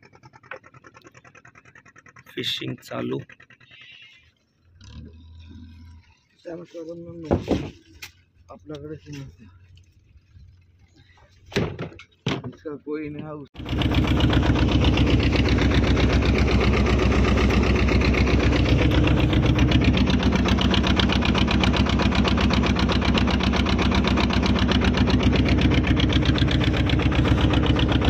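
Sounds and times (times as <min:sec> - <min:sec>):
boat engine knocking steadily: 0:00.0 - 0:11.5, 0:12.1 - 0:28.0.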